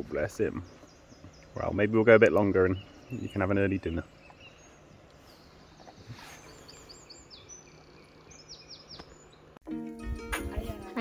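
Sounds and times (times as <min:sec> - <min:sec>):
outdoor background noise: 0:00.0 - 0:11.0
small bird chirping: 0:00.1 - 0:09.6.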